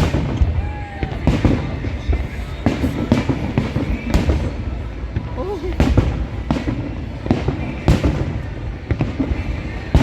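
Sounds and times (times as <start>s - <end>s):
fireworks sharp bangs: 0.0s - 10.0s
low rumble of firework bursts: 0.0s - 10.0s.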